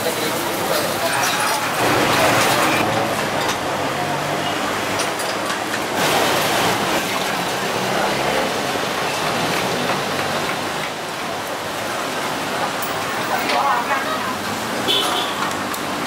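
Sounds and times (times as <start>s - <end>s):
busy night market street noise: 0.0s - 16.0s.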